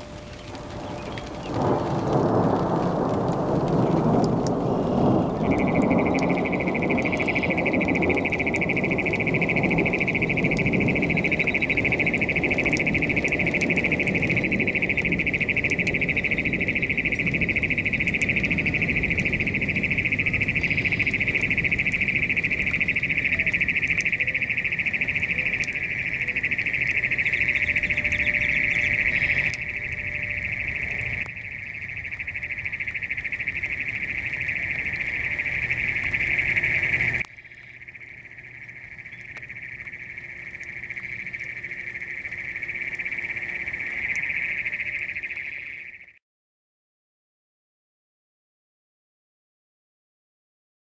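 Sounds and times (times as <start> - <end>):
low rumbling noise: 0.0 - 44.4
chorus of trilling animals: 0.7 - 46.0.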